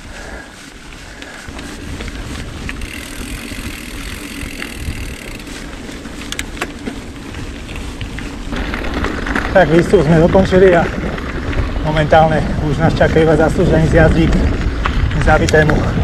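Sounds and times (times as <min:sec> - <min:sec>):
bike tyres rolling on trail: 0:00.0 - 0:16.0
wind buffeting microphone: 0:00.0 - 0:16.0.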